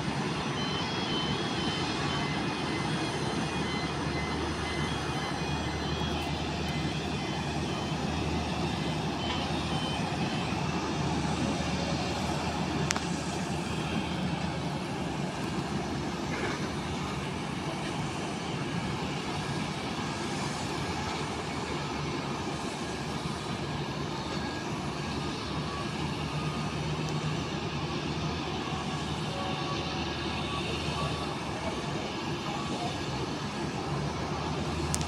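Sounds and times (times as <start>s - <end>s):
distant jet engines taxiing: 0.0s - 35.0s
ground vehicles humming: 0.0s - 35.0s.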